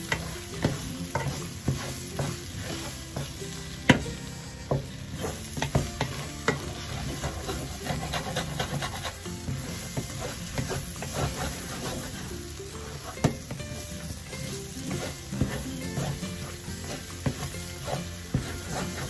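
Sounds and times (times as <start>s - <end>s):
spatula scraping frying pan: 0.0s - 4.0s, 4.6s - 19.0s
rice sizzling in a pan: 0.0s - 19.0s.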